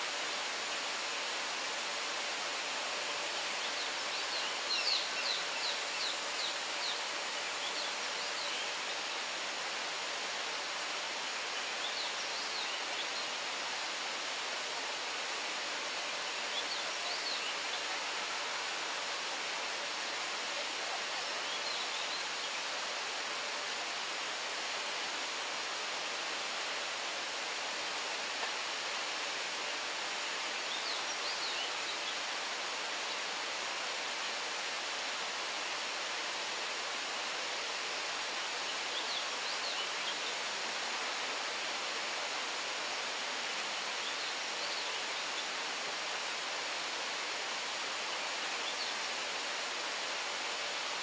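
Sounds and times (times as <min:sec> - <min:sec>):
steady outdoor hiss: 0:00.0 - 0:51.0.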